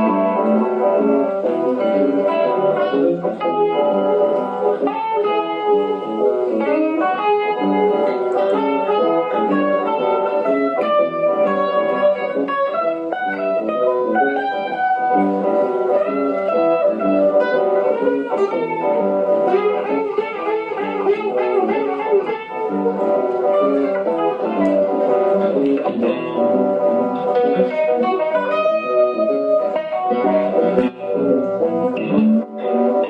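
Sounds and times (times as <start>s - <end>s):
electric guitar with vibe effect: 0.0s - 33.0s.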